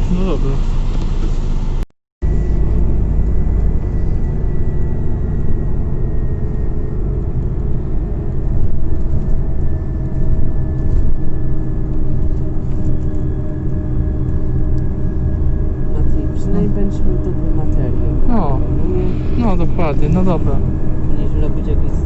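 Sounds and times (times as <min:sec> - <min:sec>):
bus engine and road rumble: 0:00.0 - 0:22.0
faint rising whine: 0:01.7 - 0:22.0.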